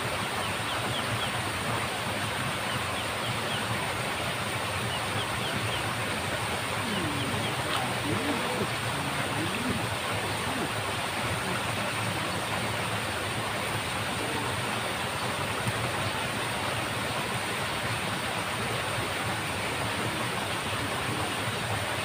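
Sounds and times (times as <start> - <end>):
water rushing through ditch: 0.0 - 22.0.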